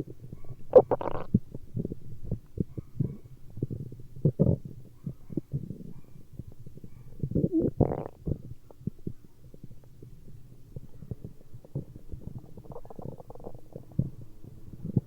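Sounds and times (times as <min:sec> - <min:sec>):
stomach growling: 0:00.0 - 0:15.0.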